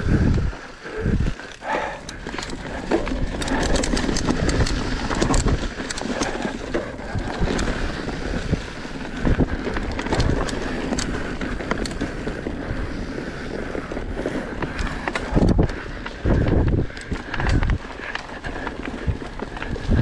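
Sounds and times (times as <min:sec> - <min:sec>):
bike clicks and rattles: 0:00.0 - 0:20.0
tyres rolling over leafy dirt: 0:00.0 - 0:20.0
wind rushing over microphone: 0:00.0 - 0:20.0.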